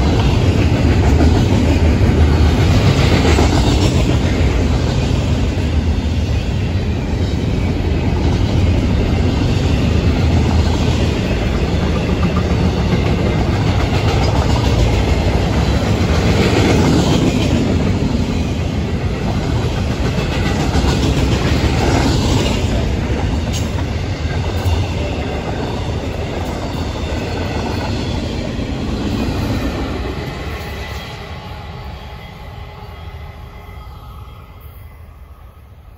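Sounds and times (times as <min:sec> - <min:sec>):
freight train wheels rumbling on rails: 0:00.0 - 0:35.9.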